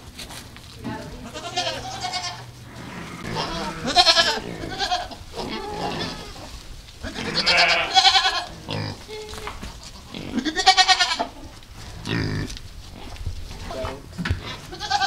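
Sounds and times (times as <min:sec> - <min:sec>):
goats bleating: 0:00.8 - 0:15.0.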